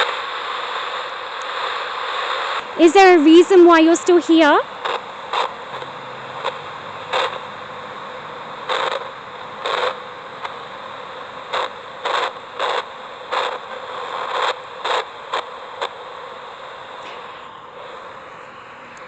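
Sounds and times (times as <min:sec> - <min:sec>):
loud noise bursts: 0:00.0 - 0:19.0
radio static: 0:00.0 - 0:19.0.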